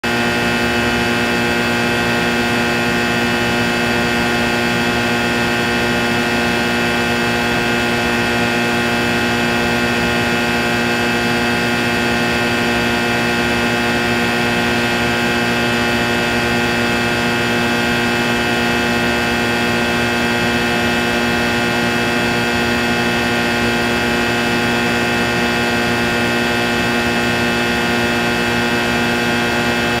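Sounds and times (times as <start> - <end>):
electrical hum and buzz: 0.0 - 30.0.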